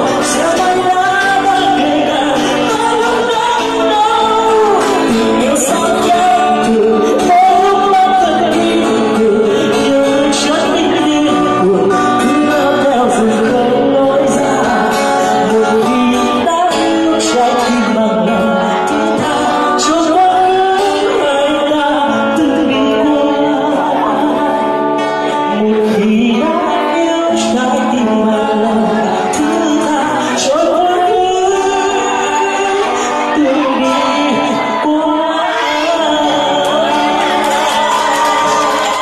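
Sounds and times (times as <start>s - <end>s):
acoustic guitar: 0.0s - 39.0s
man singing into microphone: 0.0s - 39.0s.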